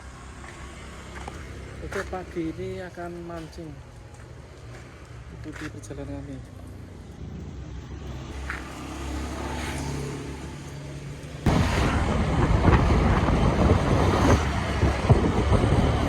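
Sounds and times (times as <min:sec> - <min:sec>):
road noise: 0:00.0 - 0:16.0
vehicle engine: 0:00.0 - 0:16.0.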